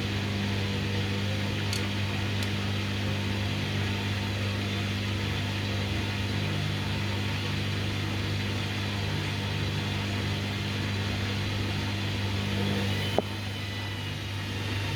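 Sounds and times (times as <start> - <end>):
washing machine motor humming: 0.0 - 14.9.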